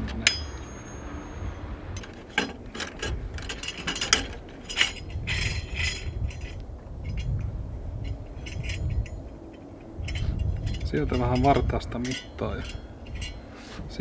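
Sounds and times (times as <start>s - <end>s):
short metallic rattle: 0.0s - 14.0s.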